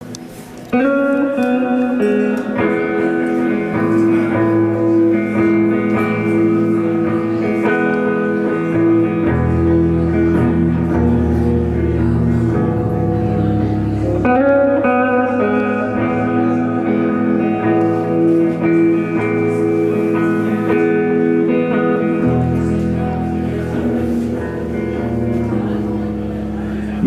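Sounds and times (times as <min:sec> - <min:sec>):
guitar chords strummed: 0:00.0 - 0:27.0.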